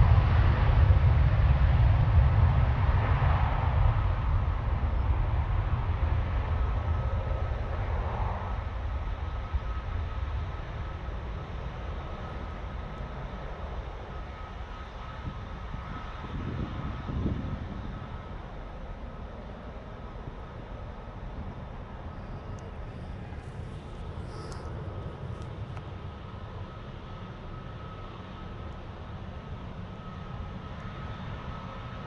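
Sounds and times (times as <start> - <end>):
jet engines rumbling and whining: 0.0 - 32.0.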